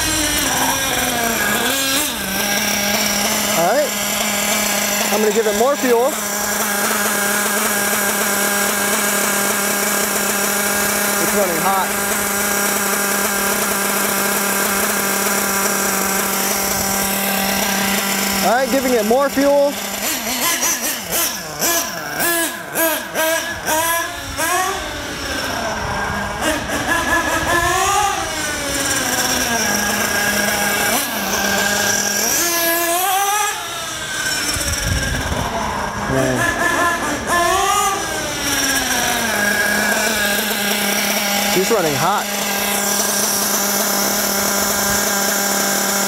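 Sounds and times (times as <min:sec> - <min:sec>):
small engine idling buzz: 0:00.0 - 0:46.0.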